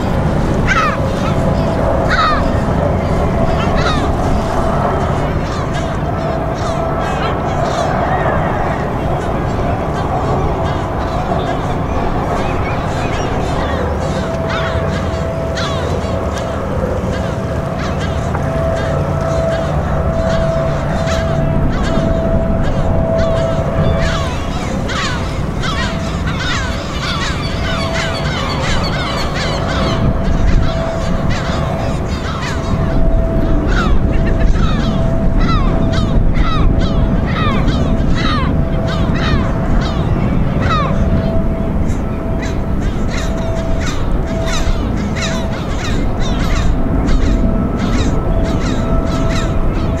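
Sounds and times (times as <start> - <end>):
faint beeping tone: 0.0 - 50.0
flock of birds calling: 0.0 - 50.0
steady low rumble: 0.0 - 50.0.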